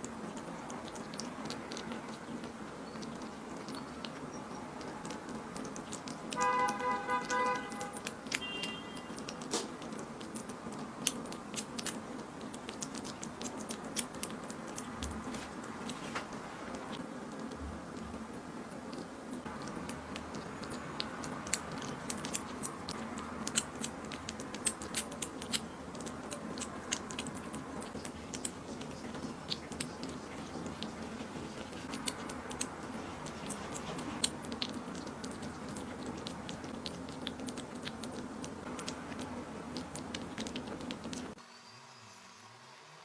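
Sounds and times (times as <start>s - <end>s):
kitten chewing and licking food: 0.0s - 41.4s.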